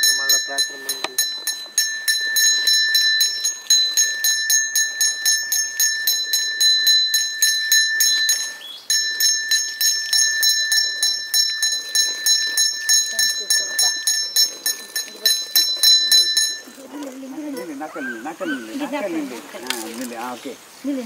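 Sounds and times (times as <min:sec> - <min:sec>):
hand bell ringing: 0:00.0 - 0:17.0.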